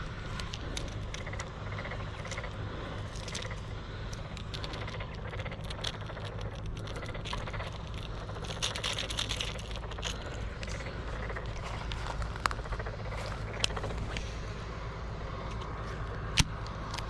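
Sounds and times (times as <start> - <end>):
fast ticking: 0.0 - 13.8
low hum: 0.0 - 17.0
light clicks and rattles: 0.2 - 14.2.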